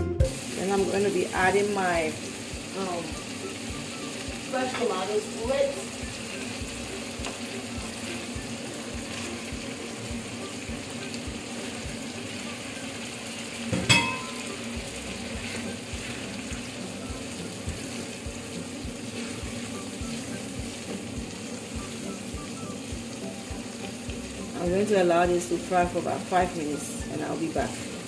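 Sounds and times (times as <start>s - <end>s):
food sizzling in oil: 0.0s - 28.0s.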